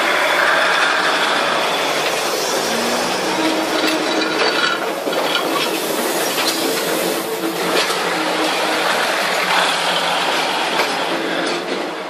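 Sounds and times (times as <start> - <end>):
train clinks and rattles: 0.0 - 12.0
train rumbling past: 0.0 - 12.0.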